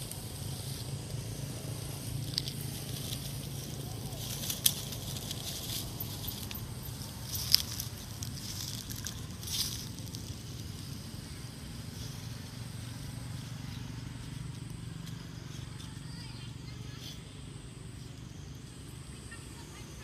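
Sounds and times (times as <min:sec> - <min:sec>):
dry leaves crackling and rustling: 0:00.0 - 0:20.0
low background hum: 0:00.0 - 0:20.0.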